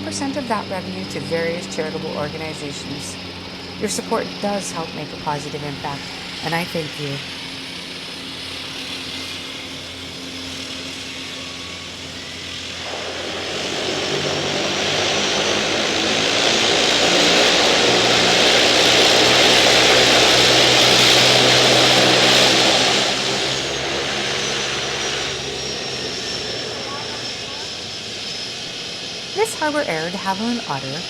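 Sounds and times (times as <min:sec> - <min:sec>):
high turbine whine: 0:00.0 - 0:31.0
propeller plane passing: 0:00.0 - 0:31.0.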